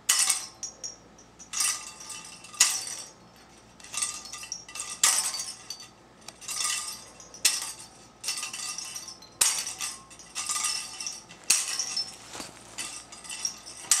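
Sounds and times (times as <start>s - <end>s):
metallic jingling of shaken object: 0.7s - 14.0s.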